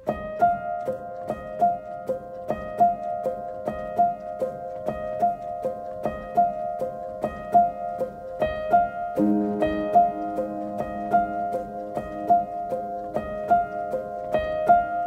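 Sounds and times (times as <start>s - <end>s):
light keyboard melody: 0.0s - 15.0s.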